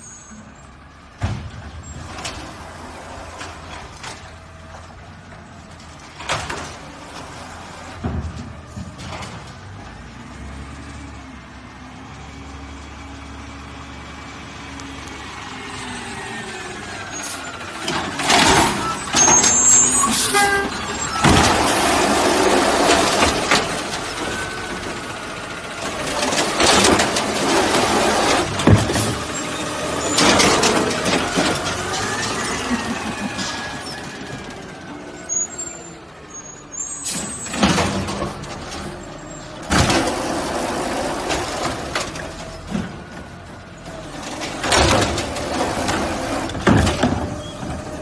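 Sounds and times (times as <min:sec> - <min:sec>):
garbage truck engine running: 0:00.0 - 0:48.0.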